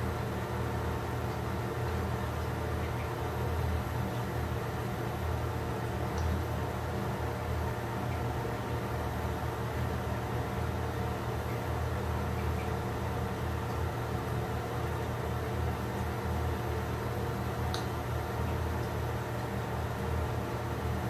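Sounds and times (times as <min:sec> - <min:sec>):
low machine hum with hiss: 0:00.0 - 0:21.0.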